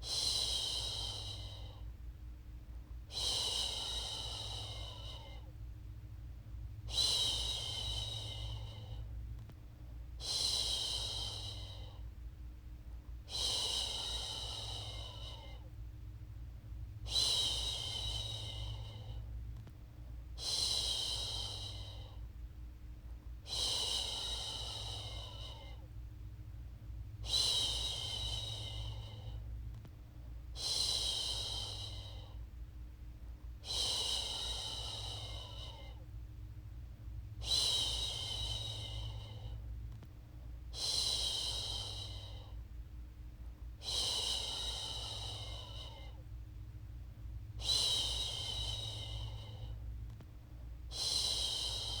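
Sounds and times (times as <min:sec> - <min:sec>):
low steady rumble: 0:00.0 - 0:52.0.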